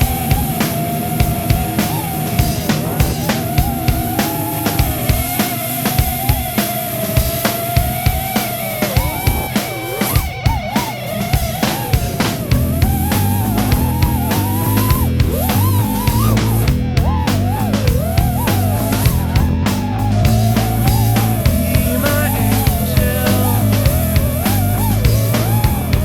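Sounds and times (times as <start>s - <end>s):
instrumental rock music: 0.0s - 26.0s.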